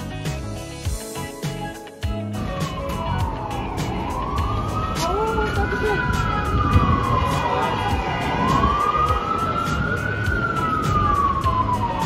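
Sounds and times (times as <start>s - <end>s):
street traffic rumble: 0.0s - 12.0s
emergency vehicle siren wailing: 2.2s - 12.0s.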